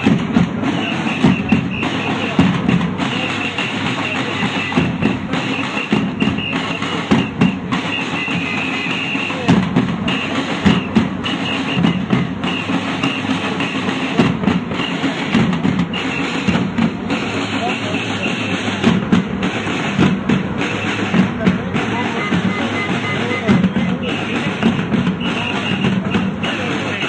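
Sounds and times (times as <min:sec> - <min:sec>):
crowd noise: 0:00.0 - 0:27.0
drums and percussion: 0:00.0 - 0:27.0.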